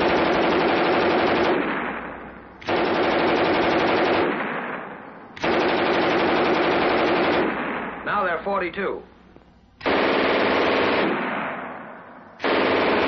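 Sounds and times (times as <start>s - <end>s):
machine gun firing bursts: 0.0s - 8.5s, 9.8s - 13.0s.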